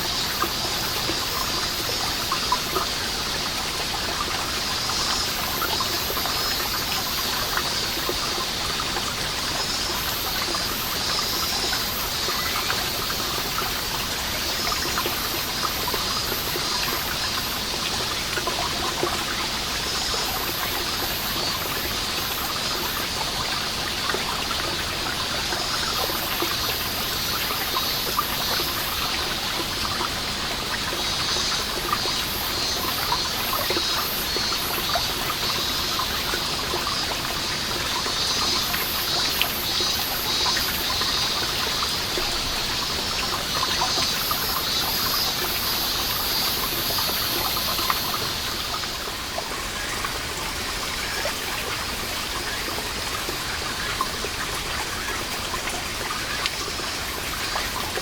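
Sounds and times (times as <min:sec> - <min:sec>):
cicadas calling: 0:00.0 - 0:58.0.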